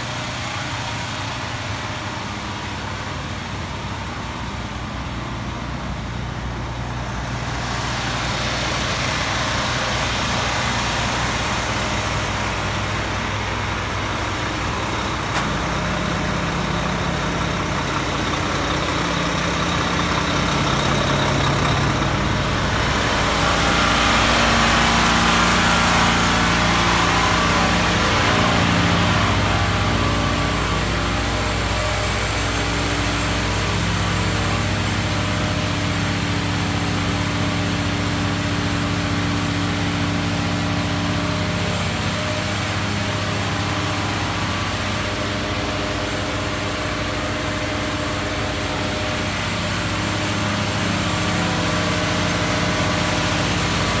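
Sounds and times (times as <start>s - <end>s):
vacuum truck engine and pump: 0.0s - 54.0s.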